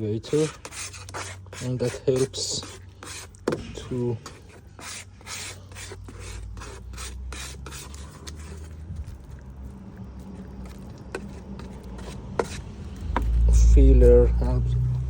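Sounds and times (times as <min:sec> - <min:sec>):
spreader scraping body filler: 0:00.0 - 0:09.2, 0:10.2 - 0:14.5.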